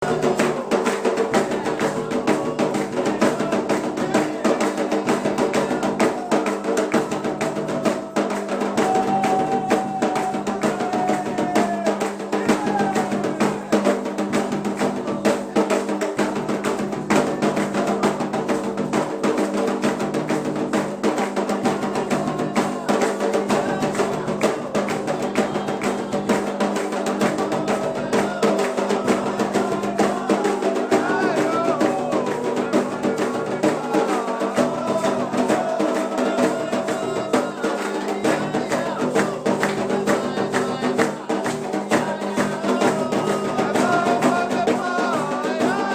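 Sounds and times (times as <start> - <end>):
person singing: 0.0 - 19.8, 20.5 - 45.9
hand drums rhythm: 0.0 - 45.9.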